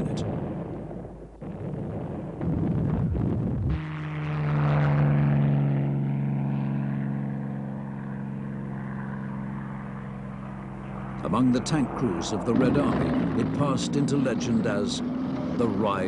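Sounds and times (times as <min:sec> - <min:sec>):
deep engine drone: 0:00.0 - 0:16.0
noisy rumble: 0:00.0 - 0:16.0.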